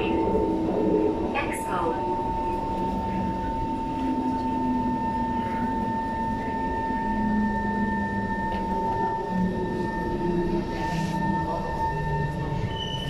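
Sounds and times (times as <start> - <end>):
high electrical whine: 0.0 - 13.0
higher whine: 0.0 - 13.0
low motor tone: 0.0 - 13.0
train rumble: 0.0 - 13.0.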